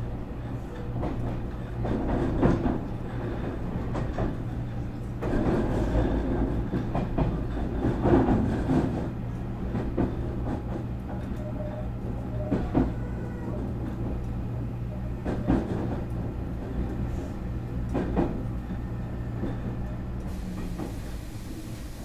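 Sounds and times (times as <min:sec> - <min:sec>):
train equipment humming: 0:00.0 - 0:22.0.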